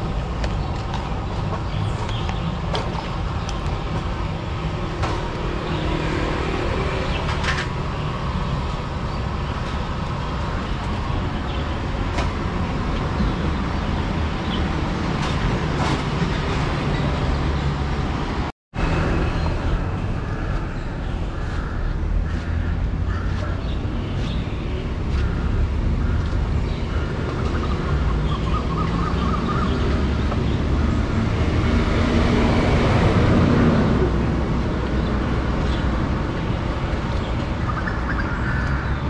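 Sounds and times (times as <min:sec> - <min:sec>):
passing cars hum: 0:00.0 - 0:39.0.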